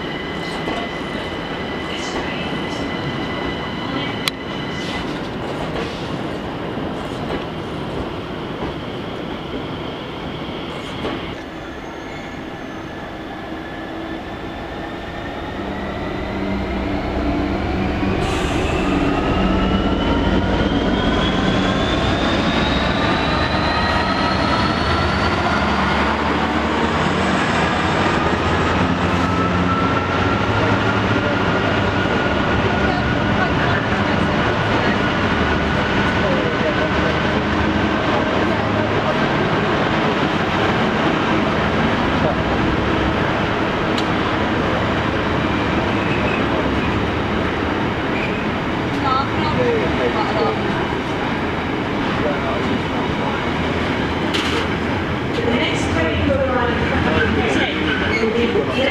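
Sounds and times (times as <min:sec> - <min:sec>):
train running noise: 0:00.0 - 0:58.9.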